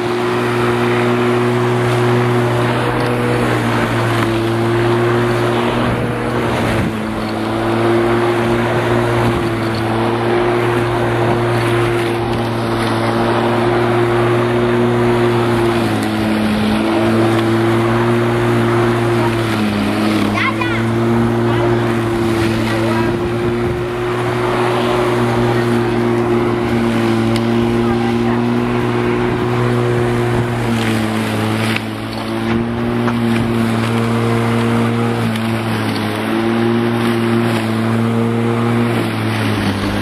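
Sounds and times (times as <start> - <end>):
electric lawn mower running: 0.0 - 40.0.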